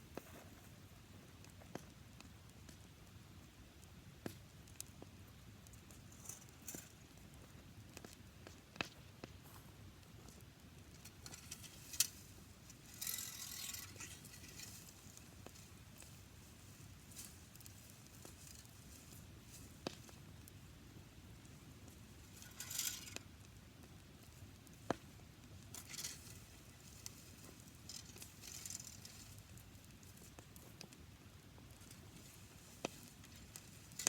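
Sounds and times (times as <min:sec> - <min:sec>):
campfire crackling: 0:00.0 - 0:34.0
fire popping: 0:00.1 - 0:34.0.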